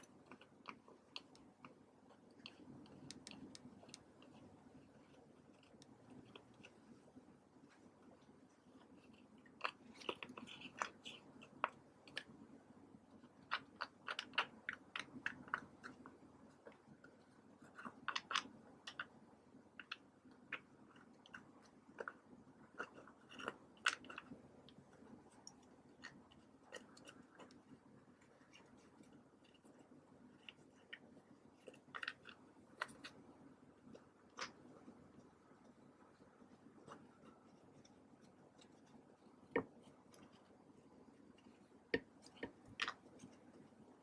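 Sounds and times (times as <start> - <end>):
plastic tool scraping eyeshadow: 0.0 - 12.5, 19.8 - 44.0.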